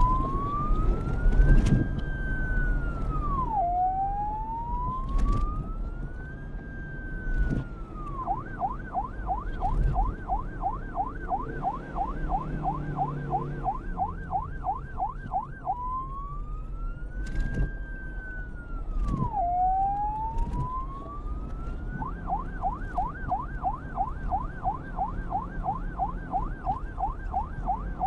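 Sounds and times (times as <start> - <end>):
reversed electronic police siren: 0.0 - 28.0.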